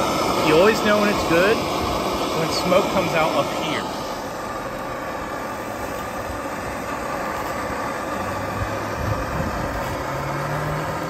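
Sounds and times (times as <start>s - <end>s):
heating torch rushing: 0.0s - 11.0s.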